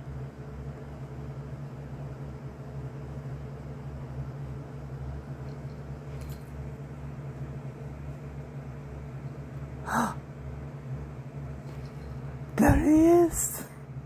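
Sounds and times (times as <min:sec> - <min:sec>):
low hum of room noise: 0:00.0 - 0:14.0.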